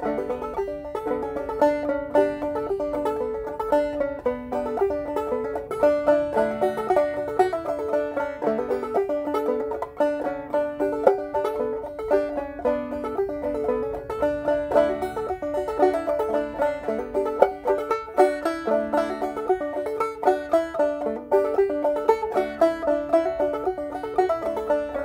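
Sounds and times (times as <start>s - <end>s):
banjo playing a tune: 0.0s - 25.0s.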